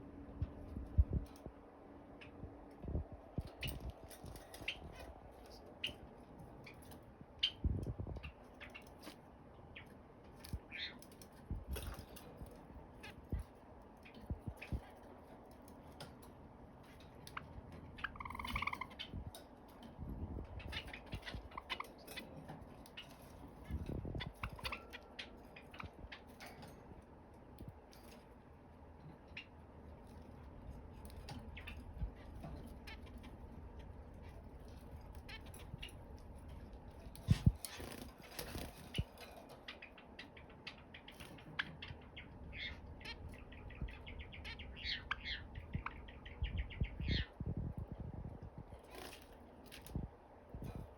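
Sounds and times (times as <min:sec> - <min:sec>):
soft bird chirps: 0:00.1 - 0:50.9.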